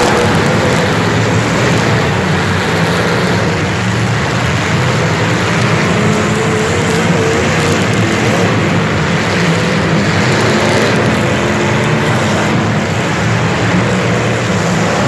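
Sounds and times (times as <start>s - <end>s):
vehicle engines running loudly: 0.0s - 15.0s.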